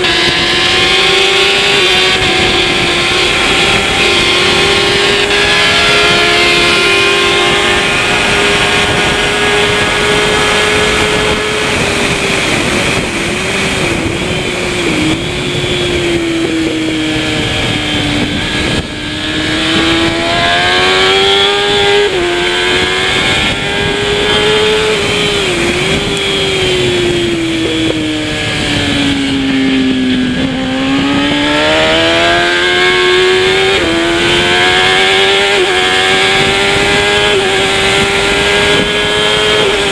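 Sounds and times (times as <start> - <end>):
motorcycle engine at high revs: 0.0 - 39.9
wind noise: 0.0 - 39.9.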